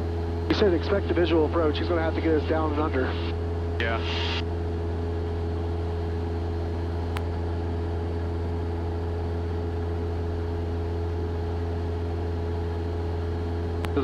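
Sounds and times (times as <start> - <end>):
airplane engine droning: 0.0 - 14.0.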